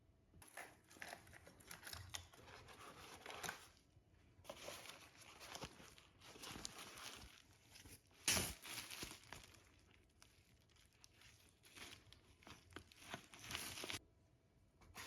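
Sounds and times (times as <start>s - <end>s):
packaging crinkling and rustling: 0.5s - 14.0s.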